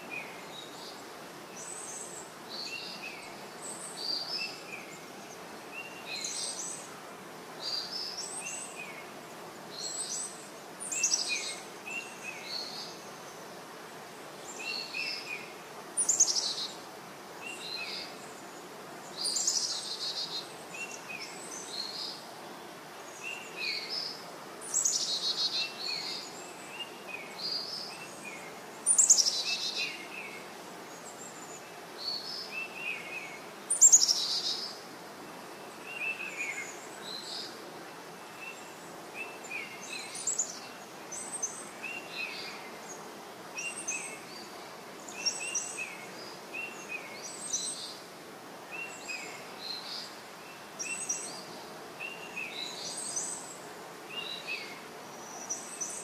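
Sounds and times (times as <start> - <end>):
steady background hiss: 0.0 - 56.0
birds calling and singing: 7.6 - 34.8, 35.4 - 48.1, 48.7 - 56.0.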